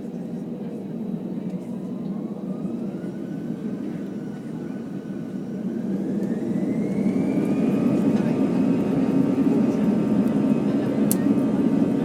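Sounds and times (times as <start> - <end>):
jet engines spooling up: 1.5 - 12.0.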